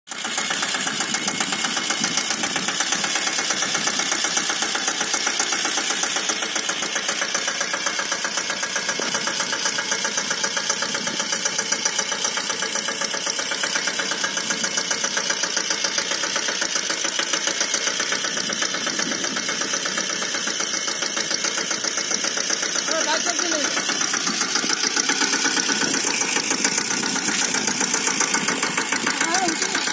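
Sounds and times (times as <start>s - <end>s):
tractor engine running: 0.1s - 29.9s.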